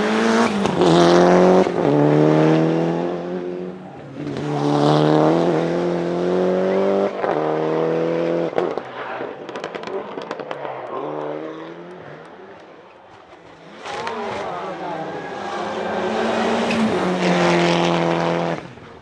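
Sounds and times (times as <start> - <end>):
rally car engine accelerating: 0.0 - 19.0.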